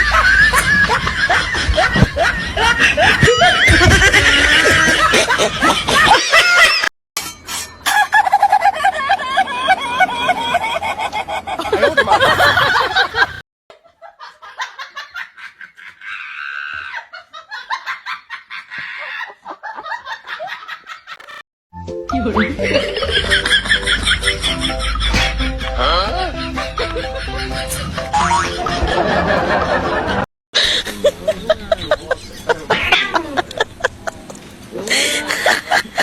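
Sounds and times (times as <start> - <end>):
people laughing: 0.0 - 6.9, 7.9 - 21.4, 22.2 - 36.0.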